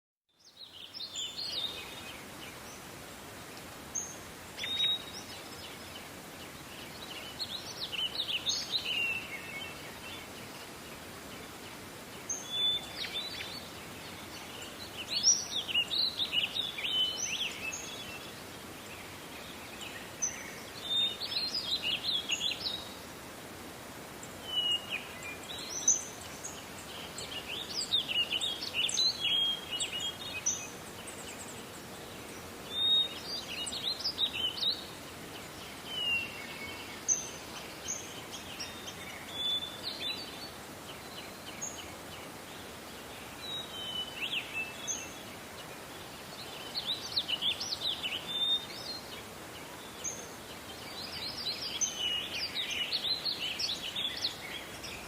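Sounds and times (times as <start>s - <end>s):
songbirds chirping: 0.3s - 55.0s
steady background hiss: 0.4s - 55.0s.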